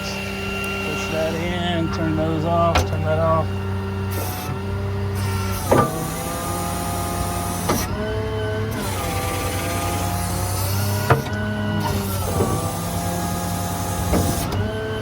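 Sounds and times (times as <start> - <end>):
hydraulic whine: 0.0 - 15.0
truck engine humming: 0.0 - 15.0.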